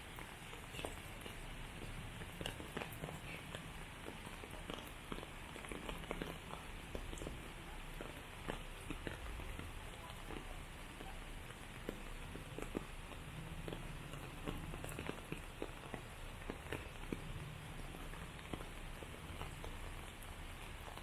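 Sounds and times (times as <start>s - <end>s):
rain hissing on paving: 0.0s - 21.0s
raindrops ticking: 0.0s - 21.0s.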